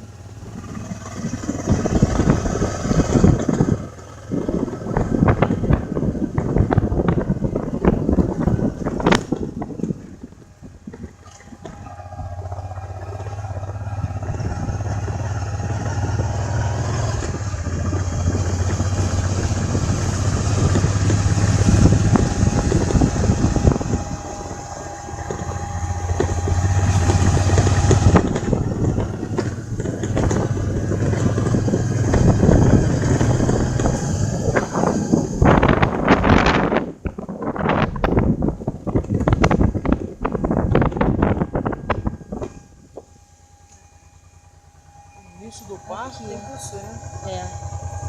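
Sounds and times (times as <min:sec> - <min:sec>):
road and wind noise: 0:00.0 - 0:48.0
vehicle engine hum: 0:00.0 - 0:48.0.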